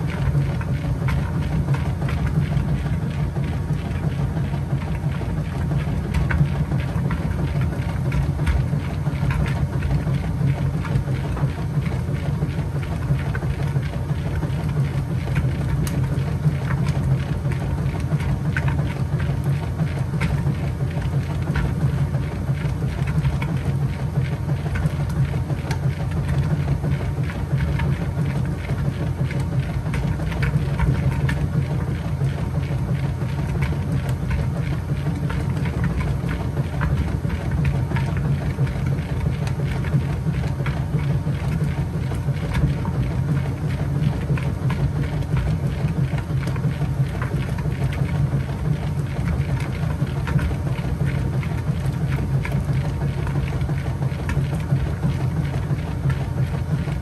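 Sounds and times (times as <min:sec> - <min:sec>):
washing machine motor hum: 0:00.0 - 0:57.0
water churning and sloshing: 0:00.0 - 0:57.0.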